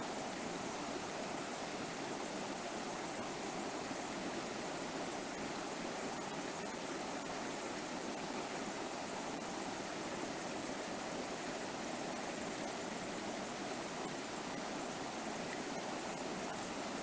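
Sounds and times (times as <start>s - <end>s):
river water flowing over rocks: 0.0s - 17.0s.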